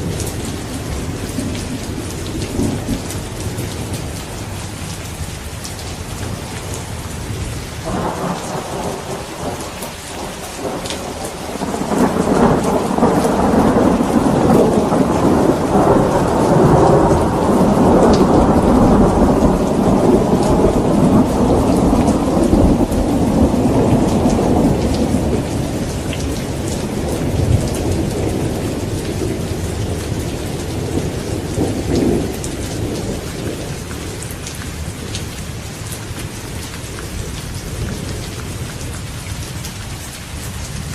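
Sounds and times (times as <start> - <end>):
thunder rumbling: 0.0 - 38.9
steady rain: 0.0 - 40.9.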